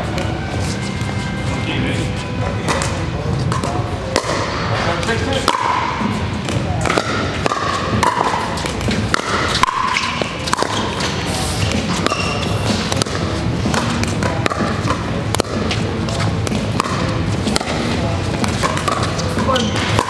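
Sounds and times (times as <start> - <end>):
background music: 0.0 - 20.0
paddles hitting plastic ball: 2.4 - 20.0.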